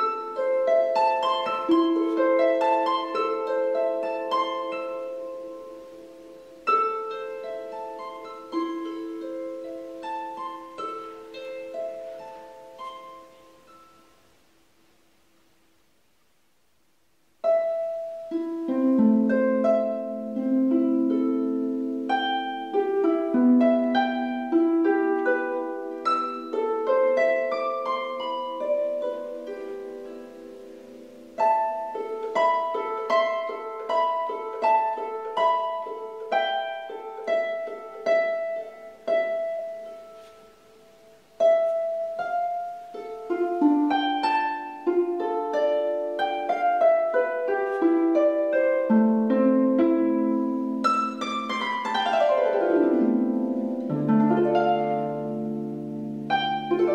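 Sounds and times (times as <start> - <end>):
harp playing: 0.0 - 15.4, 17.4 - 56.9.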